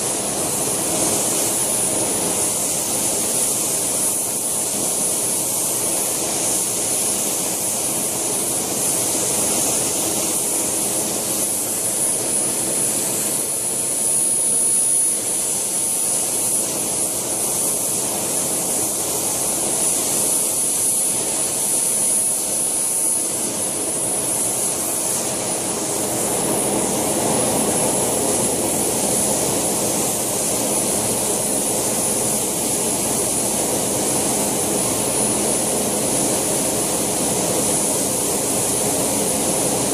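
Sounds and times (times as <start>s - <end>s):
rushing exhaust and rotor noise: 0.0s - 39.9s
turbine high-pitched whine: 0.0s - 39.9s.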